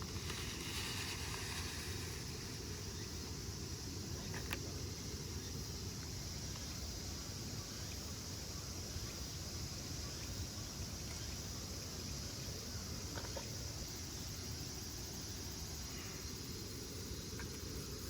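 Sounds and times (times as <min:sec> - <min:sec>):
high insect chorus: 0:00.0 - 0:18.0.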